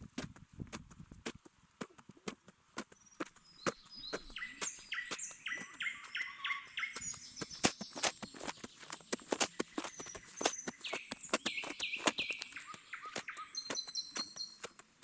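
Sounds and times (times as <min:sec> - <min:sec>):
songbird singing: 0:02.8 - 0:15.0.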